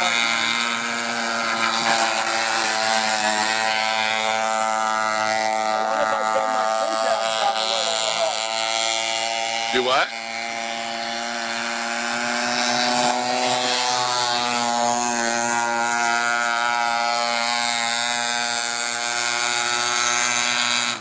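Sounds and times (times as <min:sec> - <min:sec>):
model speedboat motor whining: 0:00.0 - 0:21.0.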